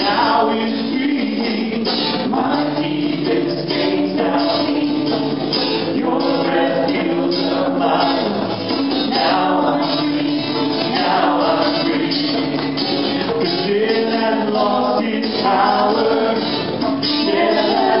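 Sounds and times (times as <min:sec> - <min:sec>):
acoustic guitar: 0:00.0 - 0:18.0
band playing: 0:00.0 - 0:18.0
people singing together: 0:00.0 - 0:18.0.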